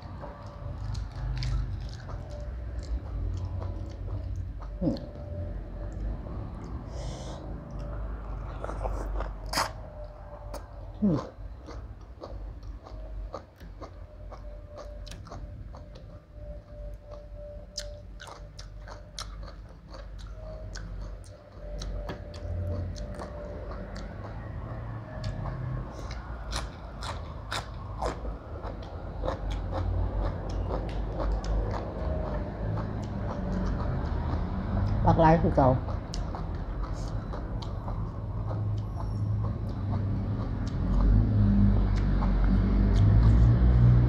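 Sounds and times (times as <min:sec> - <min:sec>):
person chewing crunchy vegetables: 0:00.0 - 0:35.0, 0:35.8 - 0:44.0.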